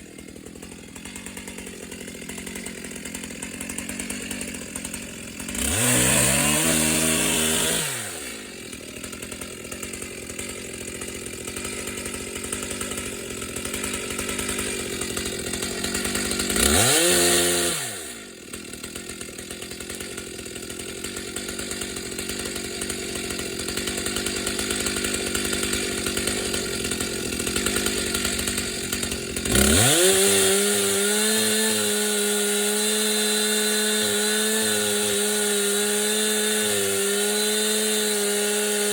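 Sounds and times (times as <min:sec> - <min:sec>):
two-stroke chainsaw revving: 0:00.0 - 0:38.9.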